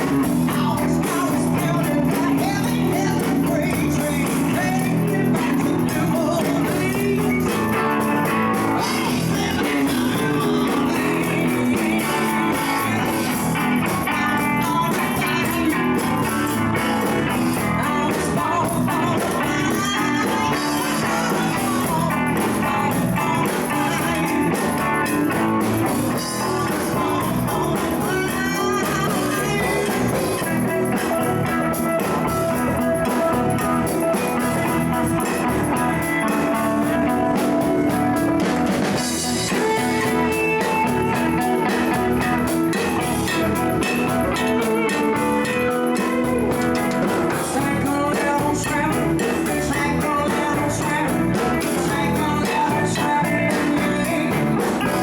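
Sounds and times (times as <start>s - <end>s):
bass line: 0.0s - 55.0s
blues-rock guitar: 0.0s - 55.0s.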